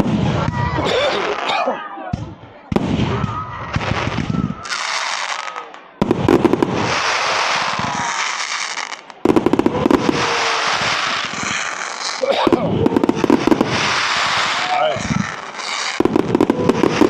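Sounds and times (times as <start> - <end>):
fireworks bursting: 0.0 - 1.5, 2.1 - 17.0
fireworks crackling: 0.0 - 1.5, 2.7 - 17.0.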